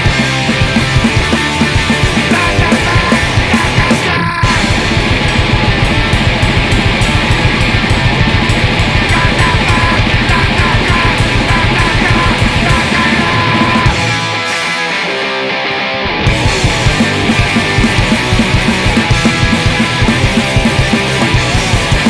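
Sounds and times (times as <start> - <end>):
punk rock band playing: 0.0 - 22.0.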